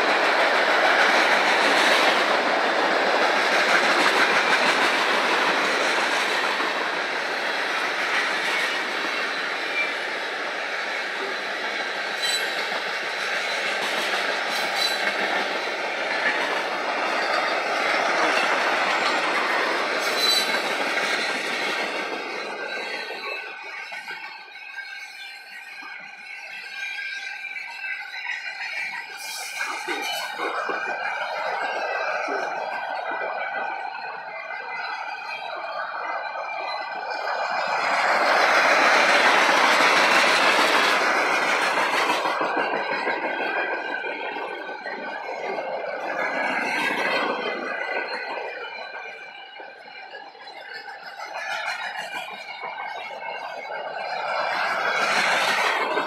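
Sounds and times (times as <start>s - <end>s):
freight train wheels rumbling and clattering: 0.0s - 56.0s.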